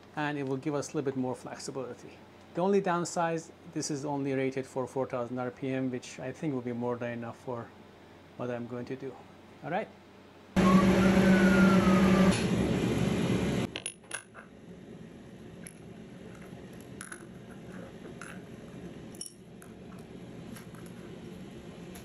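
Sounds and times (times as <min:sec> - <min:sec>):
loud hum with falling whine: 0:00.0 - 0:22.0.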